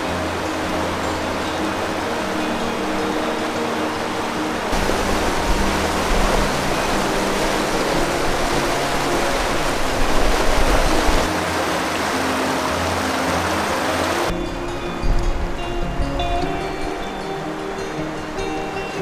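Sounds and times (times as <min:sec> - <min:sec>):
background music: 0:00.0 - 0:19.0
river rushing over rocks: 0:00.0 - 0:19.0.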